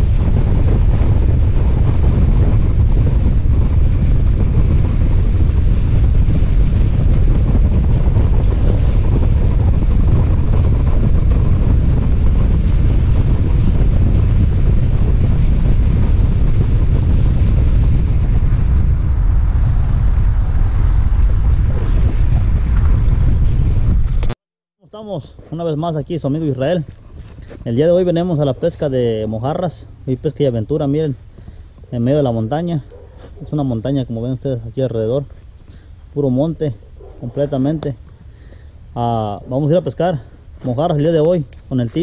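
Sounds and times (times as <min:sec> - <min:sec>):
road and tyre noise: 0:00.0 - 0:24.4, 0:25.3 - 0:42.0
wind buffeting microphone: 0:00.0 - 0:24.4, 0:25.0 - 0:42.0.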